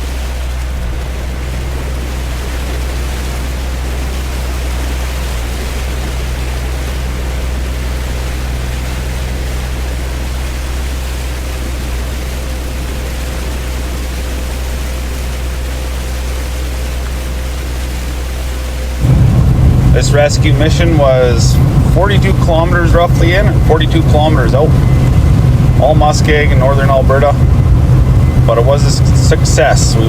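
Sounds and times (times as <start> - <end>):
vehicle engine running steadily: 0.0 - 30.0.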